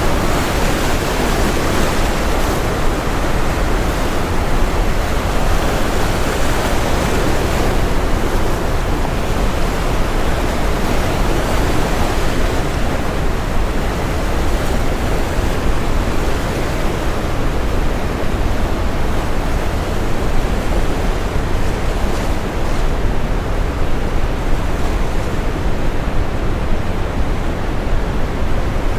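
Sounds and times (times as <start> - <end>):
ocean surf: 0.0 - 28.9.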